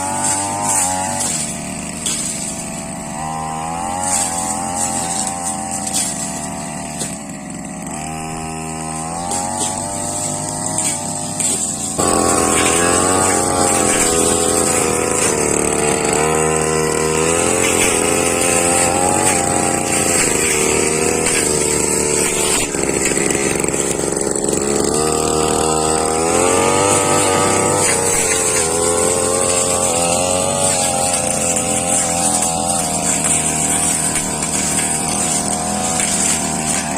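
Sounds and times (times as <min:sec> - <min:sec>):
brush cutter engine revving: 0:00.0 - 0:36.9.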